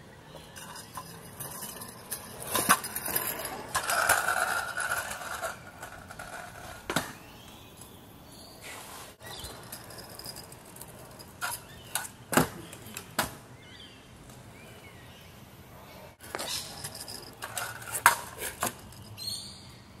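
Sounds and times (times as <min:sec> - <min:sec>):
kick scooters clattering on concrete: 0:00.1 - 0:08.2, 0:09.2 - 0:13.5, 0:16.2 - 0:19.8.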